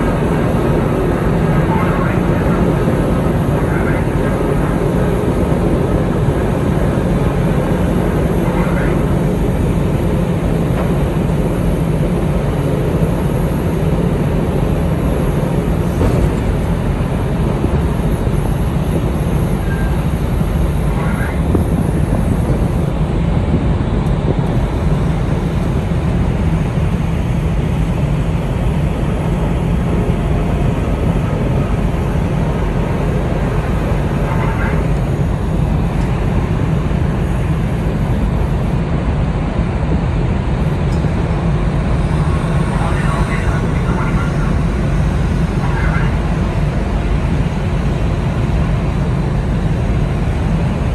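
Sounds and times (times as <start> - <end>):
ferry engines droning: 0.0 - 50.9.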